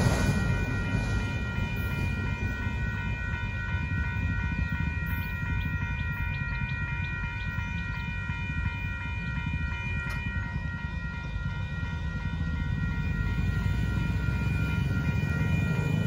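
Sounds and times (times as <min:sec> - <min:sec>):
crossing bell ringing: 0:00.0 - 0:16.0
freight train rumbling past: 0:00.0 - 0:16.0.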